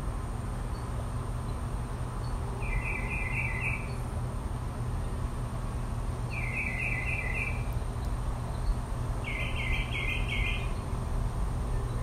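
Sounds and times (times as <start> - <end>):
songbird singing: 0.5 - 4.2, 5.0 - 12.0.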